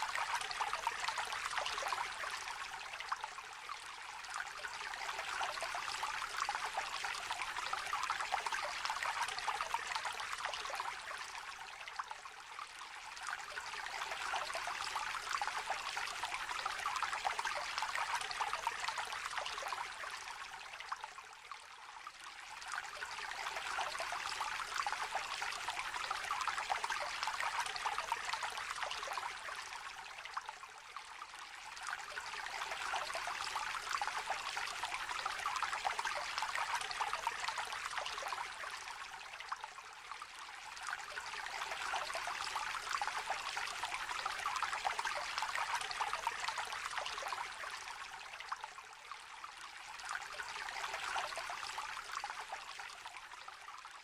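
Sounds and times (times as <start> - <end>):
small river trickling: 0.0 - 54.0.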